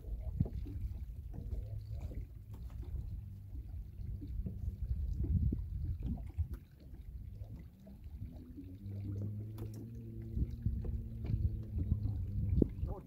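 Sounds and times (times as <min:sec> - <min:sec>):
low steady hum: 0:00.0 - 0:13.0
water lapping against boat hull: 0:00.0 - 0:13.0.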